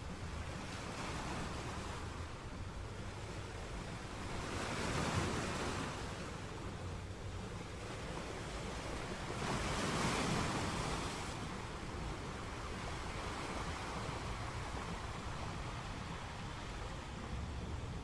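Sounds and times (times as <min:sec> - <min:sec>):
waves washing onto shore: 0:00.0 - 0:18.0.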